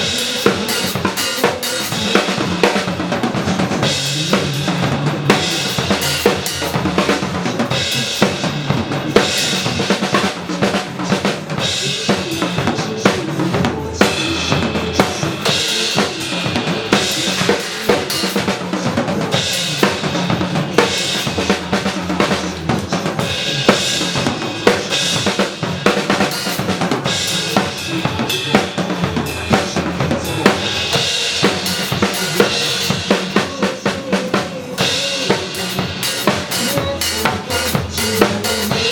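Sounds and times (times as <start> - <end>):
drum kit playing groove: 0.0 - 38.9
pop song backing track: 0.0 - 38.9.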